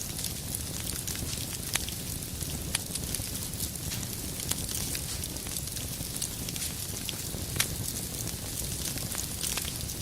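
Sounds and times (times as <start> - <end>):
fire crackling pops: 0.0 - 10.0
fire low rumble: 0.0 - 10.0.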